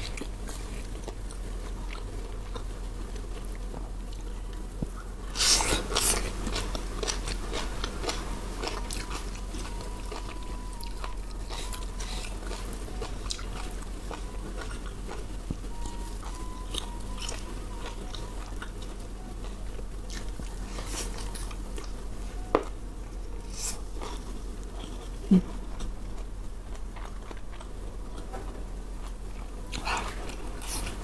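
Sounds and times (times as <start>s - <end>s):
close chewing and mouth sounds: 0.0s - 31.0s.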